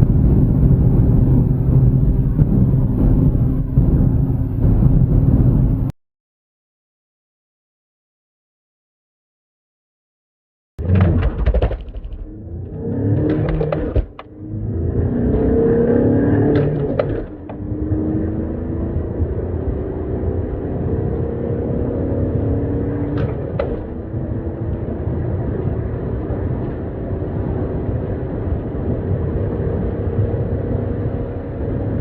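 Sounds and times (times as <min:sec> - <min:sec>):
diesel engine accelerating: 0:00.0 - 0:06.0, 0:10.8 - 0:32.0.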